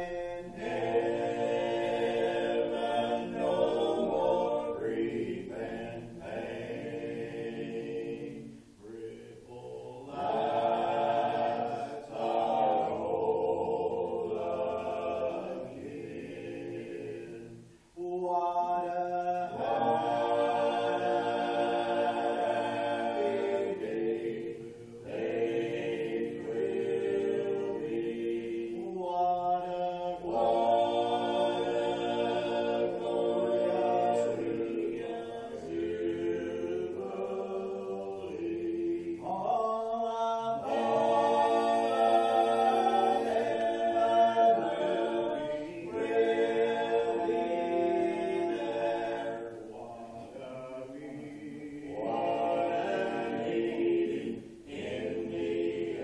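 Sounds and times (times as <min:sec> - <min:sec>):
a cappella group singing a hymn: 0:00.0 - 0:56.0.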